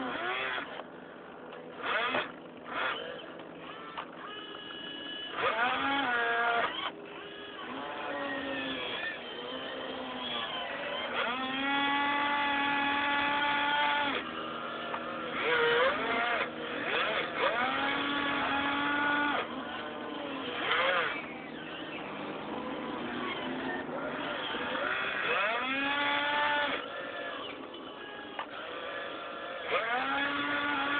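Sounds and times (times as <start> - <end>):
electric motors whining: 0.0 - 30.9
steady low hum: 0.0 - 30.9.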